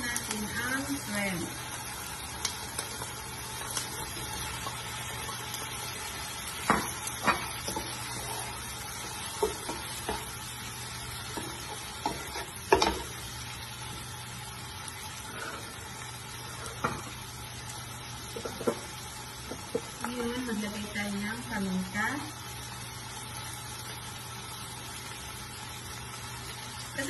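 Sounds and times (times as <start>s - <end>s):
shrimp sizzling in a pot: 0.0s - 27.0s.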